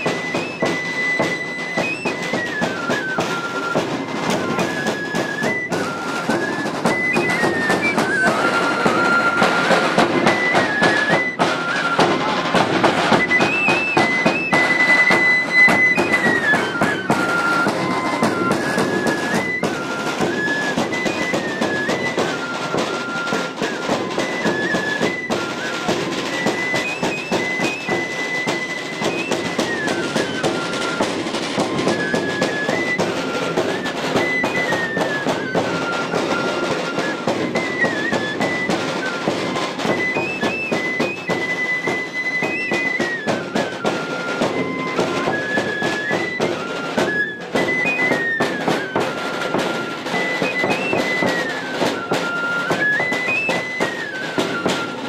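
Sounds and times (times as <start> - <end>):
high flute-like melody: 0.0 - 55.0.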